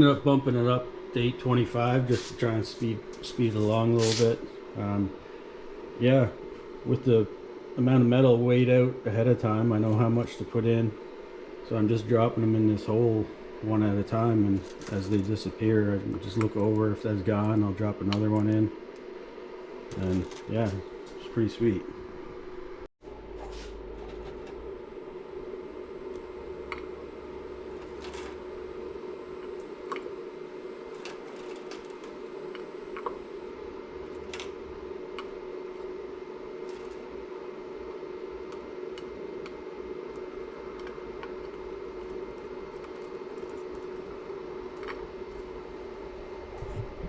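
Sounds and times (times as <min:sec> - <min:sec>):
electric furnace humming: 0:00.0 - 0:47.0.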